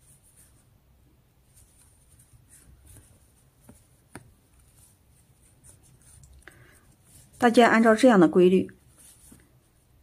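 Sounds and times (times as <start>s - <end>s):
yarn rustling through stitches: 0.0s - 10.0s.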